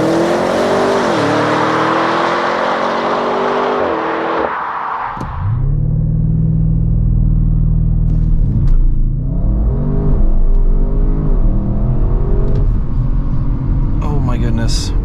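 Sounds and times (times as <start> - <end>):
car accelerating with upshifts: 0.0 - 14.0
car engine revving: 0.0 - 14.1.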